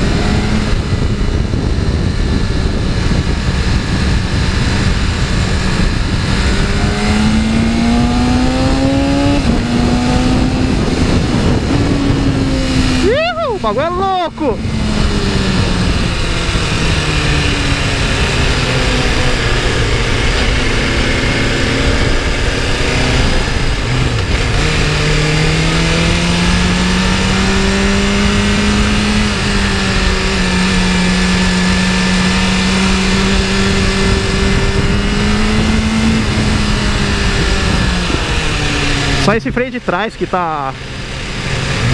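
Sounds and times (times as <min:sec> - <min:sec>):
motorcycle engine revving: 0:00.0 - 0:41.9
wind rushing over microphone: 0:00.0 - 0:41.9.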